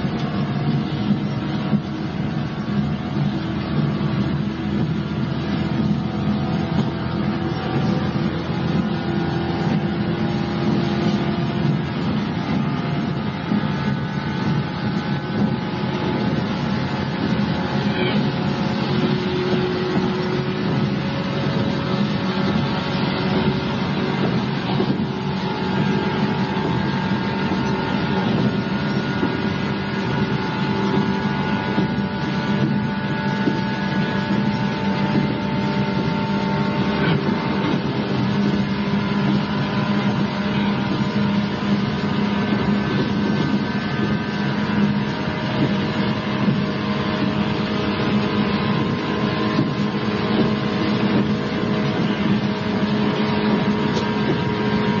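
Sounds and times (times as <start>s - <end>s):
traction motor whine: 0.0s - 55.0s
train wheels rumbling on rails: 0.0s - 55.0s.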